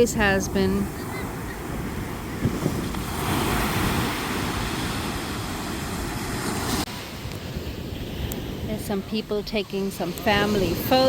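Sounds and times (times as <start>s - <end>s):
ocean surf rushing: 0.0s - 11.0s
wind rumbling on microphone: 0.0s - 11.0s.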